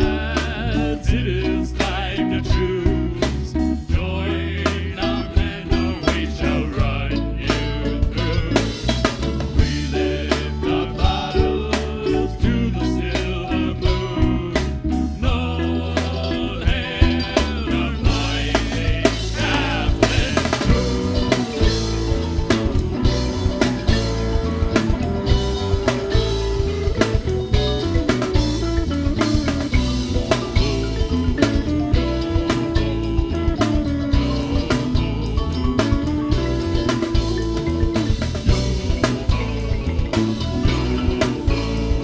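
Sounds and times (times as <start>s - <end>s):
drum kit beat: 0.0s - 42.0s
rock band music: 0.0s - 42.0s.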